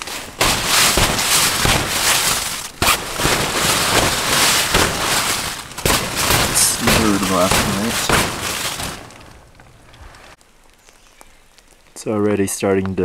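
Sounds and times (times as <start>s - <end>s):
hail pelting a tent: 0.0s - 13.0s.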